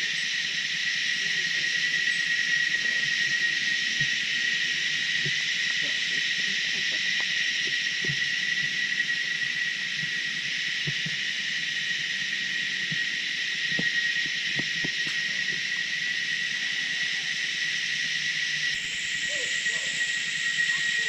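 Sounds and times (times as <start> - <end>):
insect chorus buzzing: 0.0 - 21.0.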